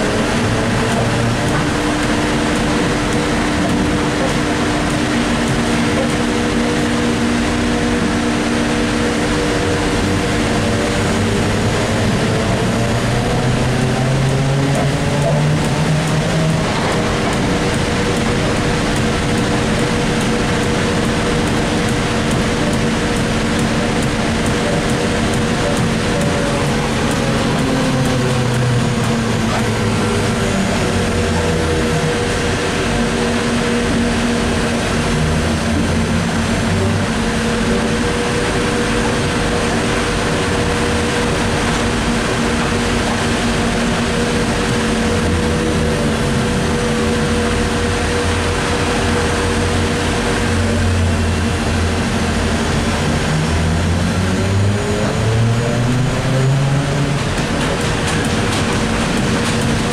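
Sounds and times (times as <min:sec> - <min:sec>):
rumbling running noise: 0:00.0 - 0:59.9
trolleybus electric motor whine: 0:00.0 - 0:59.9.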